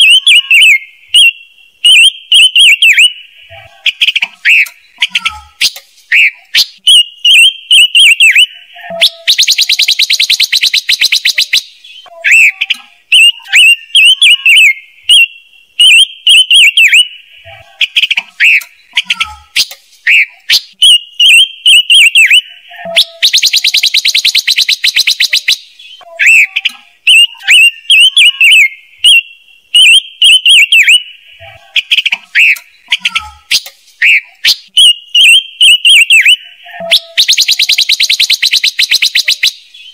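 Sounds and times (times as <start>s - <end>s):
bright bird chirping: 0.0s - 39.9s.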